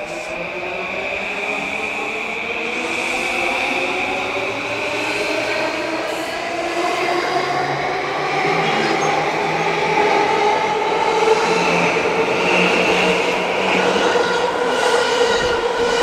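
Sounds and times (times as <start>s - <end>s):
train moving along track: 0.0s - 16.0s.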